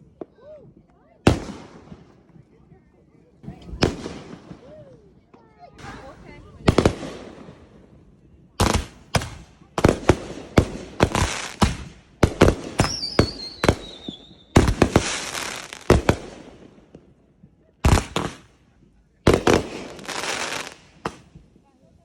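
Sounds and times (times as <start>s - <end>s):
fireworks bangs and crackle: 0.0s - 22.0s.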